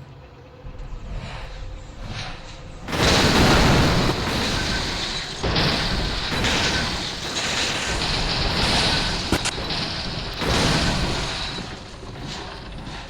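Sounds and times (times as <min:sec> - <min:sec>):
train passing at speed: 0:00.5 - 0:13.0.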